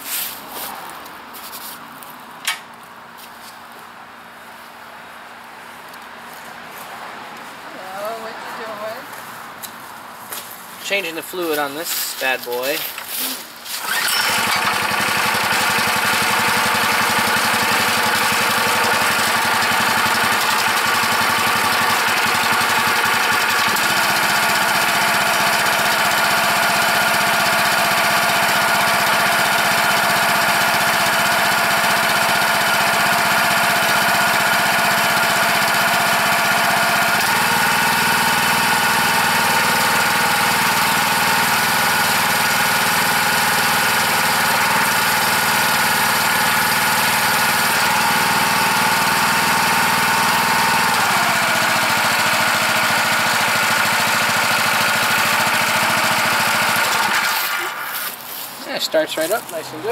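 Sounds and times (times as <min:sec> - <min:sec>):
small engine running: 0:10.8 - 0:59.9.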